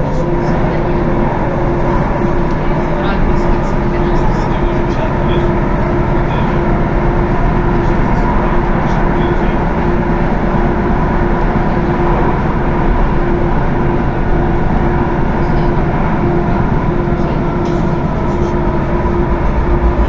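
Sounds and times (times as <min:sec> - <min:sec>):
train drive hum and whine: 0:00.0 - 0:20.0
train wheels rumbling on rail: 0:00.0 - 0:20.0.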